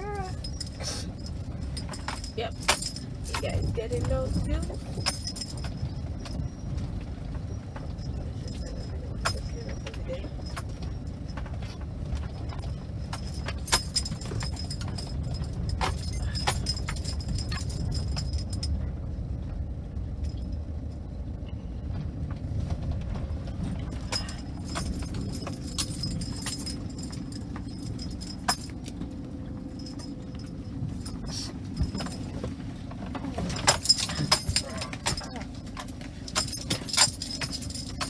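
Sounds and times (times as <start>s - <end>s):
car driving rumble: 0.0s - 38.0s
rattles and knocks: 0.0s - 38.0s.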